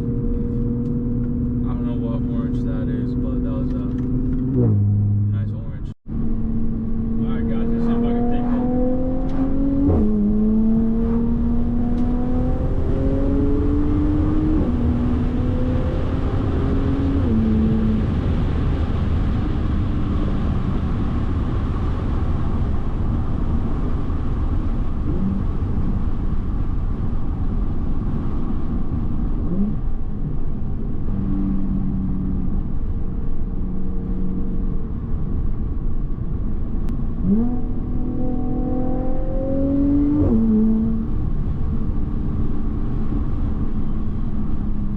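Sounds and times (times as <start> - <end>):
car engine accelerating through upshifts: 0.0 - 35.7, 36.8 - 44.9
road noise: 0.0 - 44.9.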